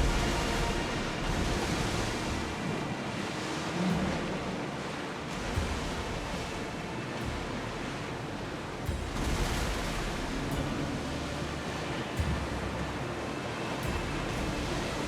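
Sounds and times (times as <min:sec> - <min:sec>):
sea waves washing: 0:00.0 - 0:15.0.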